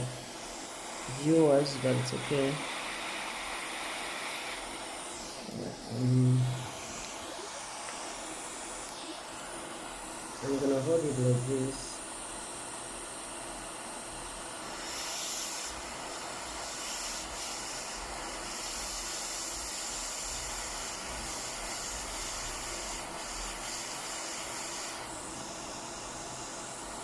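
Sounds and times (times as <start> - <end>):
hot air station hissing: 0.0 - 27.0.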